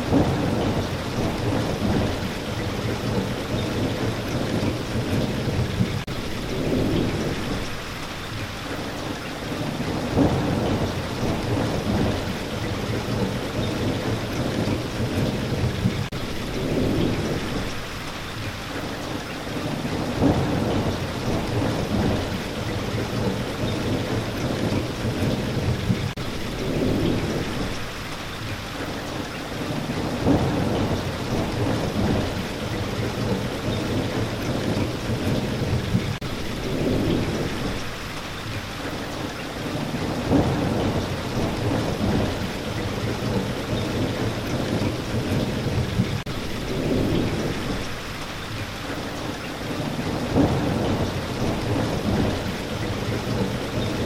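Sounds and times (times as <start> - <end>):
low thunder rumbles: 0.0 - 7.9, 9.4 - 18.4, 19.6 - 54.0
steady rain: 0.0 - 54.0.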